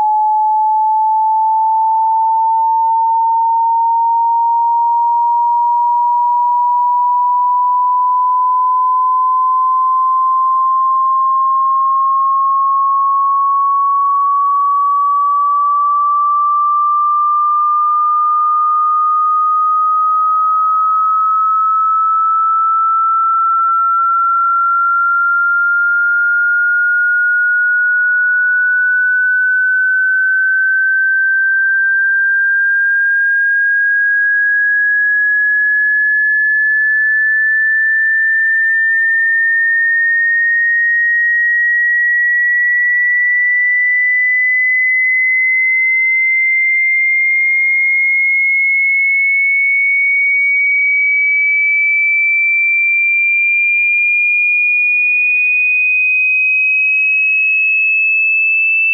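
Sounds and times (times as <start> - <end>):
sine tone rising in pitch: 0.0 - 58.9.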